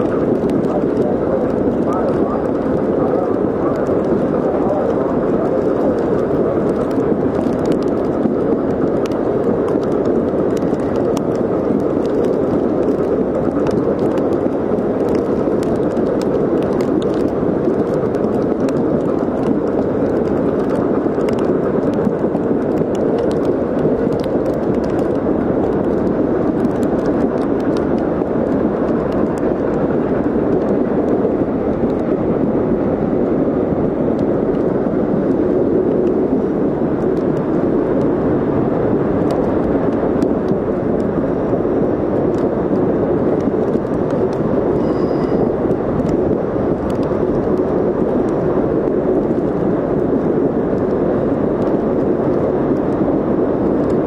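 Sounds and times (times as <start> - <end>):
train wheels rumbling on rail: 0.0 - 49.5.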